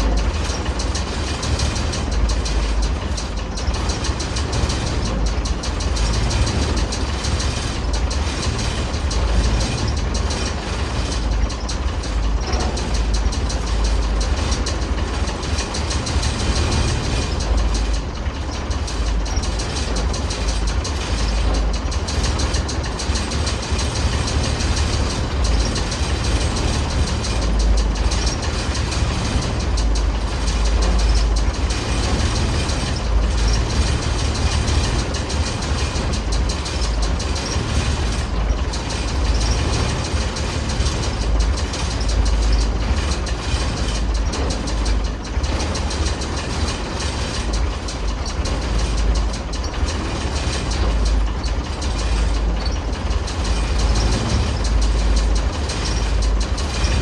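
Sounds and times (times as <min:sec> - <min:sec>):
truck engine clattering rumble: 0:00.0 - 0:57.0.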